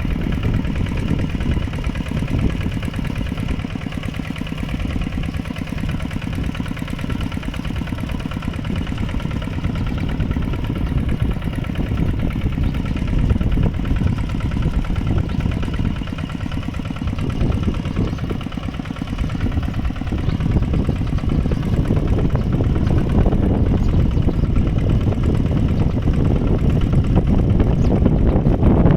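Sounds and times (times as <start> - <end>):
tractor engine chugging: 0.0 - 28.9.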